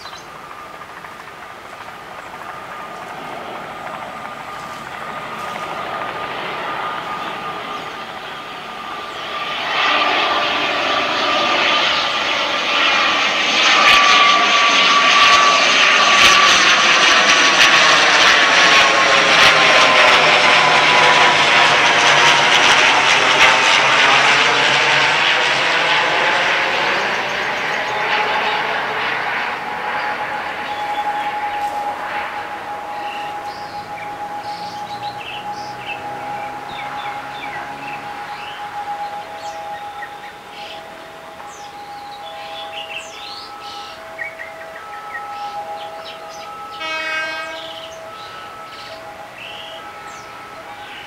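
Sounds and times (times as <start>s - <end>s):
diesel train engine drone: 0.0s - 51.0s.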